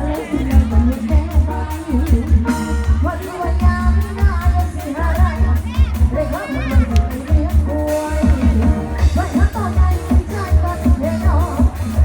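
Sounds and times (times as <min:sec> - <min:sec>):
booming bass and drum beat: 0:00.0 - 0:12.0
person singing: 0:00.0 - 0:12.0.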